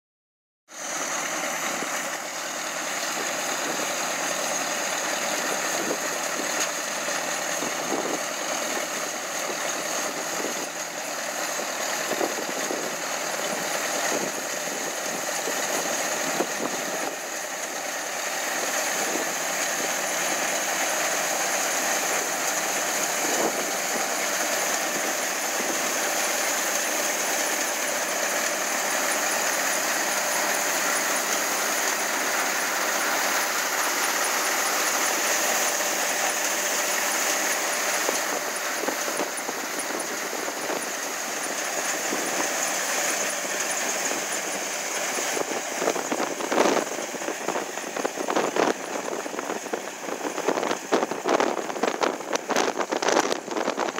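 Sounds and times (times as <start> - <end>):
harvester engine running: 0.7 - 53.9
threshing machinery rattling: 0.8 - 53.9.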